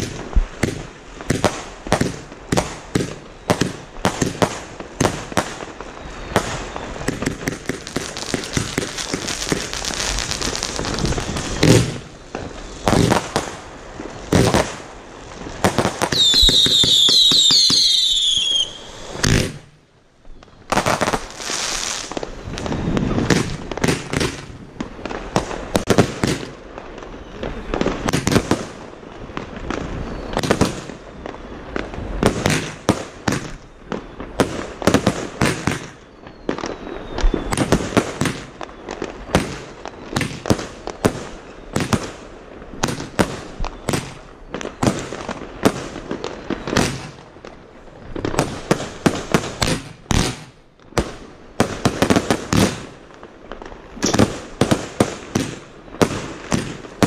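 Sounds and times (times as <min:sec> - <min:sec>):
firework cakes firing bangs: 0:00.0 - 0:19.8, 0:20.6 - 0:57.0
distant fireworks crackling: 0:00.0 - 0:57.0.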